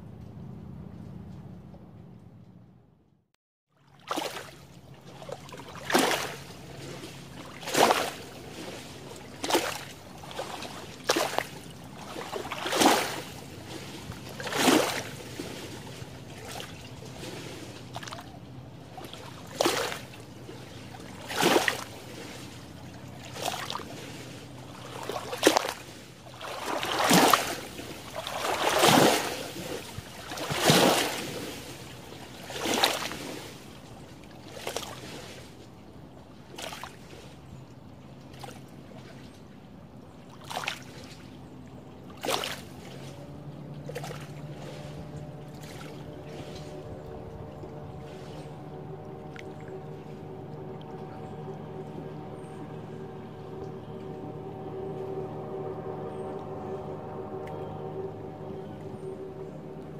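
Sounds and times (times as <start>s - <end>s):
small waves lapping shore: 3.7s - 59.9s.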